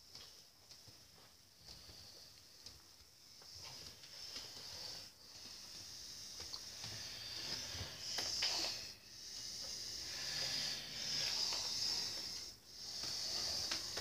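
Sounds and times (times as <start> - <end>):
person breathing asleep: 1.7 - 14.0.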